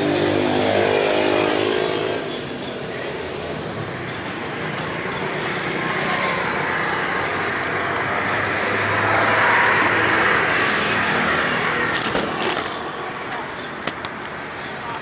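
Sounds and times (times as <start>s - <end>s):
motor scooter passing: 0.0s - 13.2s
street traffic: 0.0s - 15.0s.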